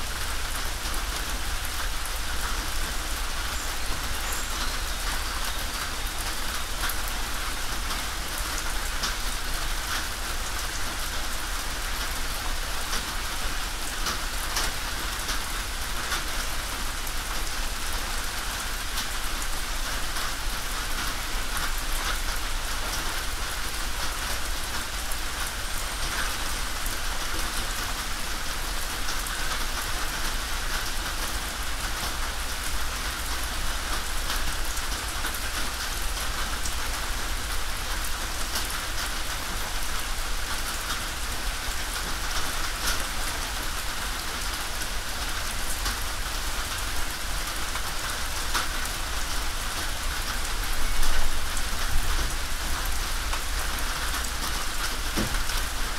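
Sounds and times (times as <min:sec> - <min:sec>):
rain on a tin roof: 0:00.0 - 0:55.9.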